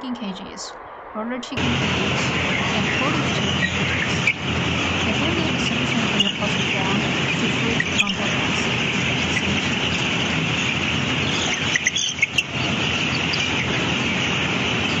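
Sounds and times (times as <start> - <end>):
chickens chirping: 1.6 - 15.0.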